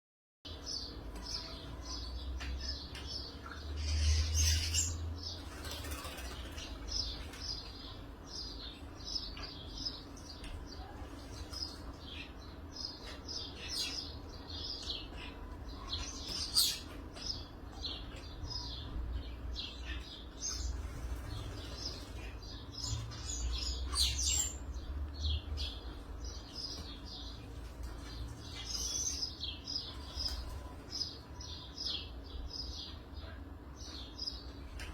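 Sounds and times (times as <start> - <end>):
small birds chirping: 0.5 - 34.9.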